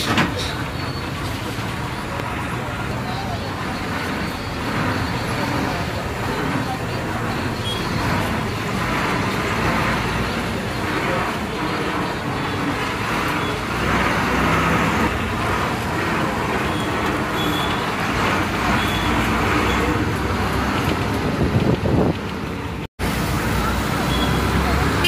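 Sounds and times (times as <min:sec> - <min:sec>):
vehicle engine and tyre noise: 0:00.0 - 0:25.0.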